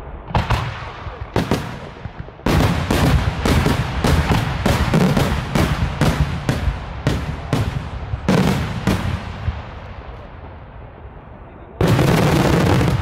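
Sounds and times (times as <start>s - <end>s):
fireworks bursting with bangs: 0.0s - 10.6s, 11.8s - 13.0s.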